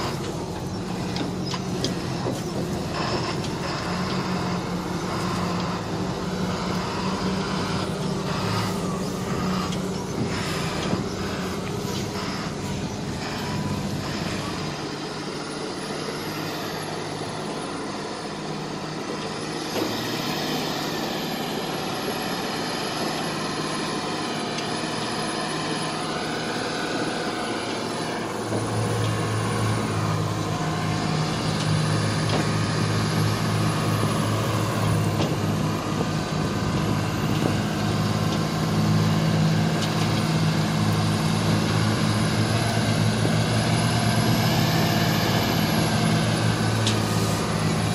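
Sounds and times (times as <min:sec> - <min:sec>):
truck diesel engine under load: 0:00.0 - 0:47.9.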